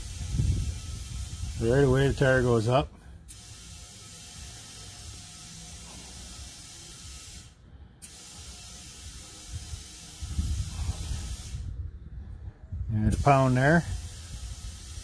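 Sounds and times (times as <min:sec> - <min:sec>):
compressed air hissing into tire: 0:00.0 - 0:11.9, 0:12.9 - 0:15.0.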